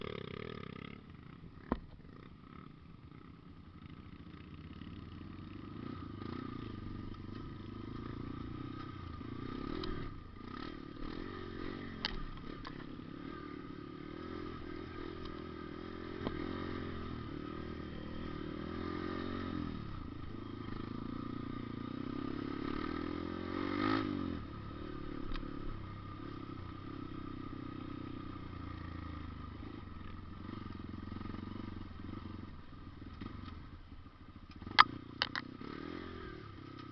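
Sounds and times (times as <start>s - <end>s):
engine revving: 5.6s - 33.5s, 34.5s - 36.9s.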